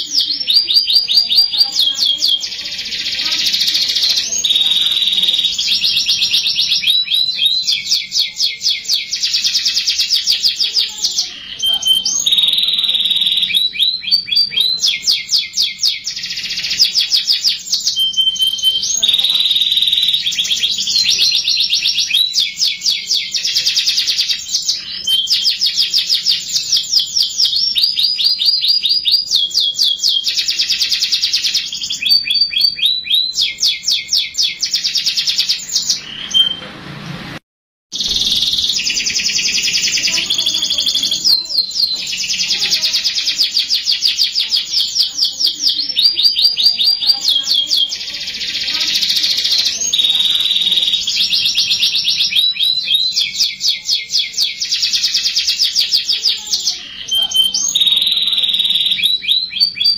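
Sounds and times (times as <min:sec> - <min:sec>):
canary singing trills: 0:00.0 - 0:36.6, 0:37.9 - 0:59.9.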